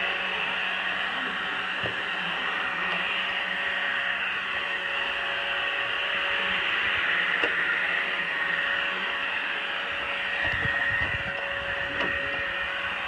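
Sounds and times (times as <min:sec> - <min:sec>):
robot vacuum whirring: 0:00.0 - 0:13.0.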